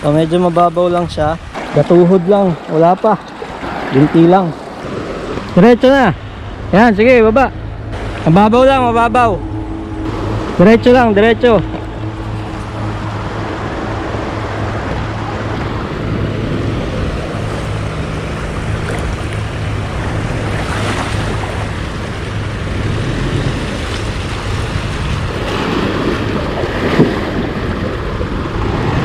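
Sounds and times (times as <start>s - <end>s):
water rushing over rocks: 0.0s - 6.2s, 10.0s - 29.0s
wind buffeting microphone: 0.0s - 29.0s.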